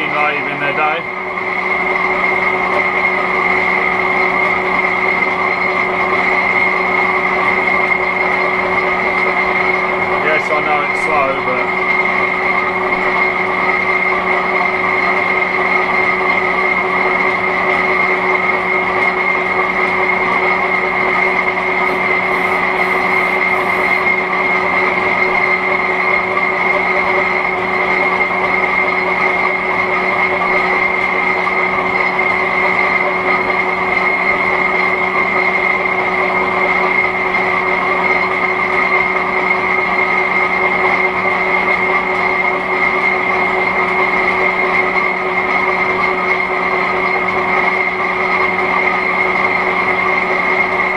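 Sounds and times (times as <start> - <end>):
lathe hum with high whine: 0.0 - 50.9.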